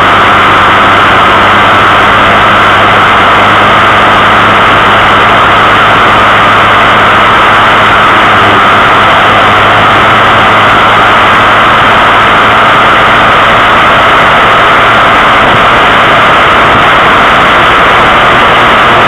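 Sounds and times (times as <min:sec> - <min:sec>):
road and wind rush: 0:00.0 - 0:19.0
small vehicle motor running: 0:00.0 - 0:19.0.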